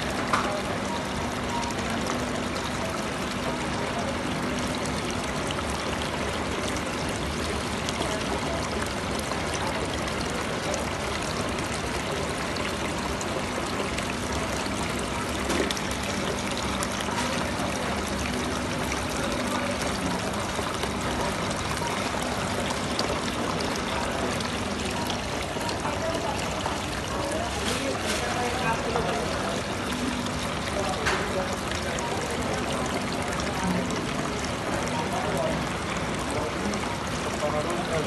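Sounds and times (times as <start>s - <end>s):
fountain water splashing on rocks: 0.0s - 38.0s.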